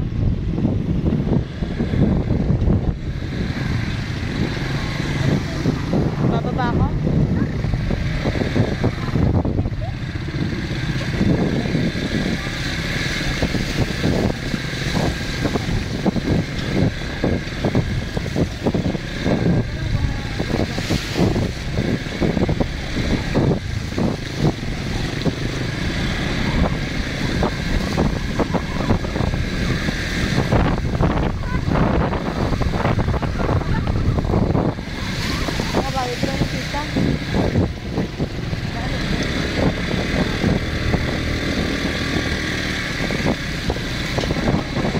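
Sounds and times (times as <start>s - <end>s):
small motorcycle engine rumbling: 0.0s - 44.9s
water splashing under tyres: 0.0s - 44.9s
wind buffeting microphone: 0.0s - 44.9s.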